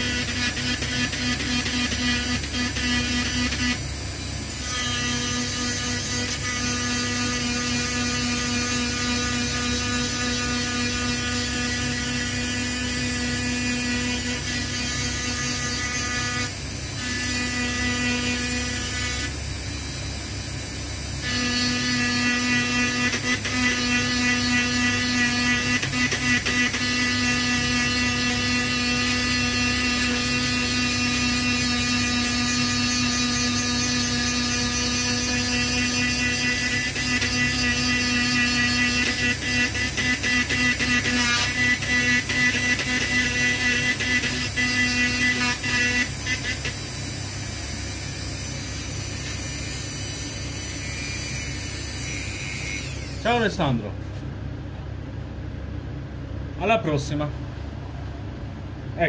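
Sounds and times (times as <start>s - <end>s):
rotary tool buzzing on metal: 0.0s - 19.5s, 21.1s - 53.6s.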